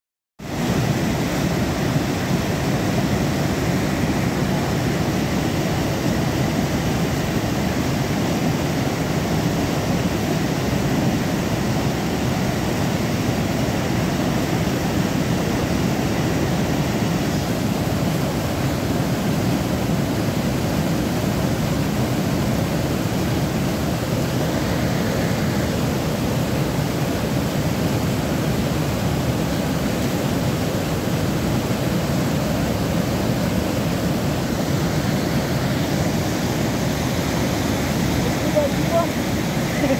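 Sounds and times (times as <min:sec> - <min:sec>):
stream rushing over rocks: 0:00.4 - 0:39.9.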